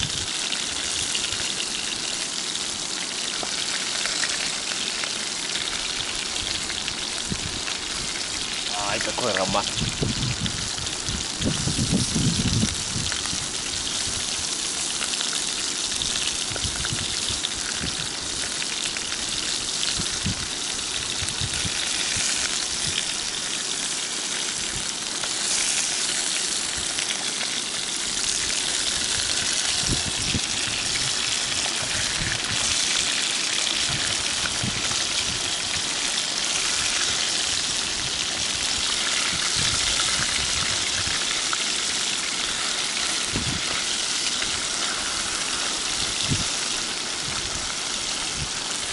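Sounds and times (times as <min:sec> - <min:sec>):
fish frying in hot oil: 0:00.0 - 0:48.9.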